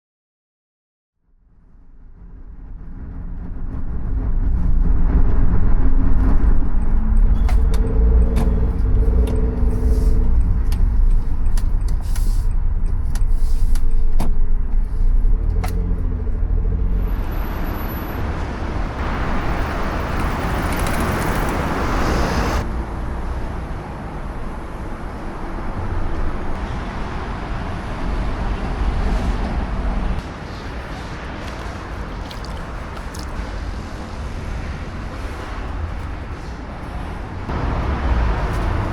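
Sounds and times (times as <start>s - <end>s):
car engine and road rumble: 1.5s - 38.9s.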